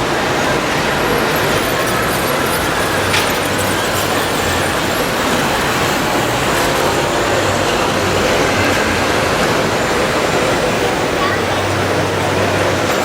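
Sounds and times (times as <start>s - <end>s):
model bulldozer running: 0.0s - 13.0s.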